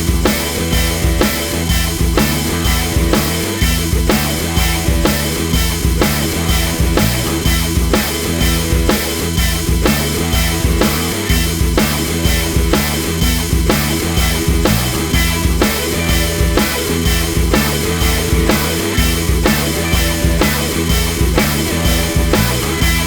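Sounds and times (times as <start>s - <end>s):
background music with drum beat: 0.0s - 23.0s.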